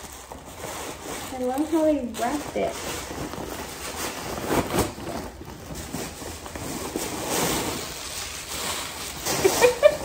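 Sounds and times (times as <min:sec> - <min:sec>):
tissue paper and gift bag rustling: 0:00.0 - 0:10.0.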